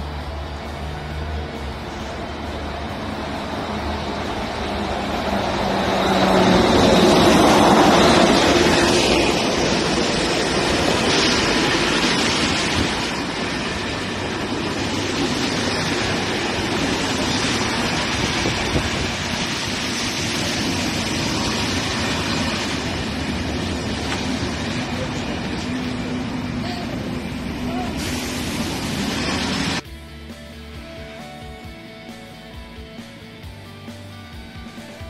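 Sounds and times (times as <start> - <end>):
train wheels rumbling on rail: 0.0 - 29.8.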